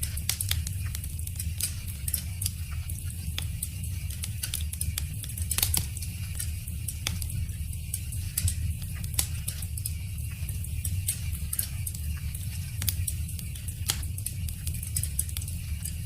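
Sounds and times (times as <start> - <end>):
low rumble and hiss: 0.0 - 16.0
wood fire crackling: 0.0 - 16.0.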